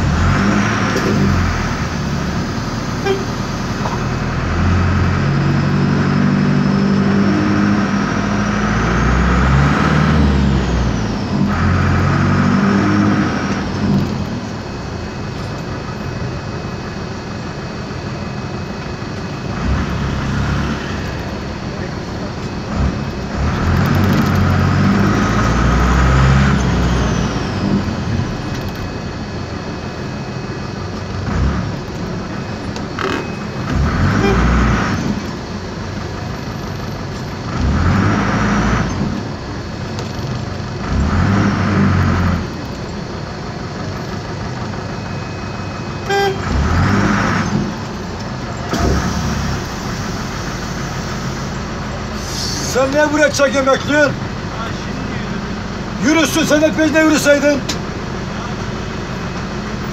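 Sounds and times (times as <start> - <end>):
diesel bus engine droning: 0.0 - 59.9.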